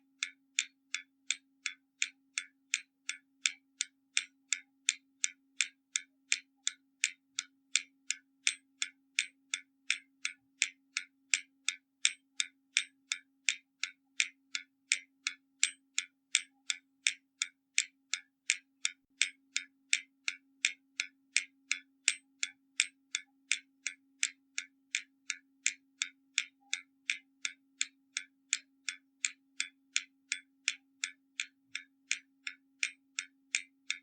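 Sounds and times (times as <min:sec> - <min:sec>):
clock ticking: 0:00.0 - 0:34.0.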